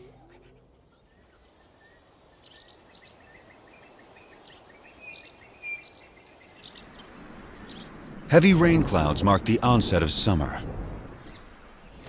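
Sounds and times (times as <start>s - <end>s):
bird chirping: 0.0s - 9.8s, 11.1s - 12.0s
high-pitched insect drone: 0.0s - 12.0s.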